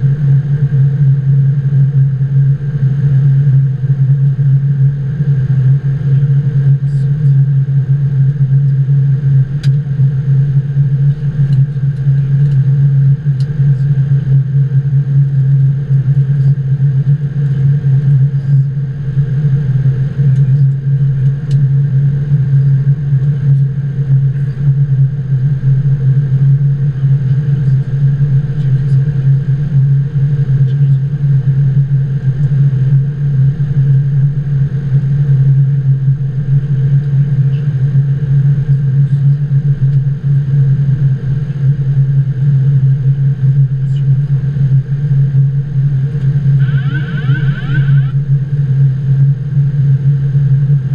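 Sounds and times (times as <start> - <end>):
aircraft cockpit engine rumble: 0.0 - 50.9.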